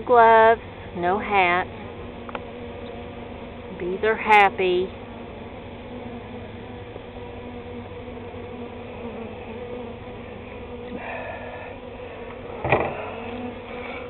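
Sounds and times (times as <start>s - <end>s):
bee swarm humming: 0.0s - 14.0s.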